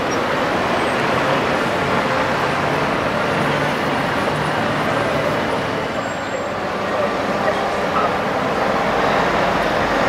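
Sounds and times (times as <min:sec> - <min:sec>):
passing road vehicle: 0:00.0 - 0:10.0.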